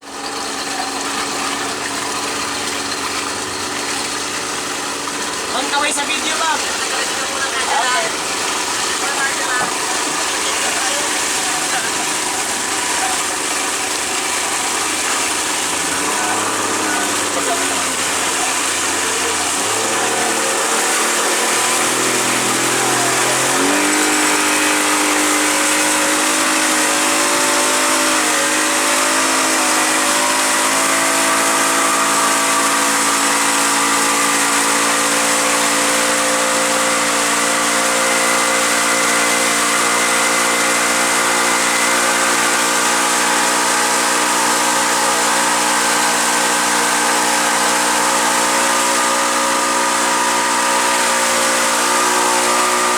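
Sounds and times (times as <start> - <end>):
motorboat engine: 0.0 - 52.9.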